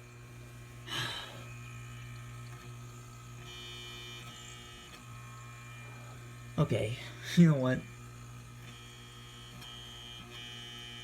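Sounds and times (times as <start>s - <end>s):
refrigerator motor humming: 0.0s - 11.0s.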